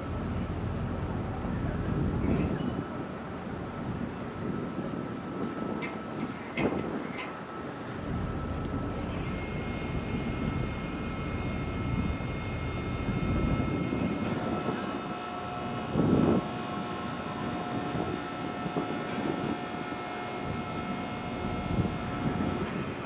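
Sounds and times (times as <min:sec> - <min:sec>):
ship machinery droning: 0:00.0 - 0:23.0
thin machinery whining: 0:00.0 - 0:23.0.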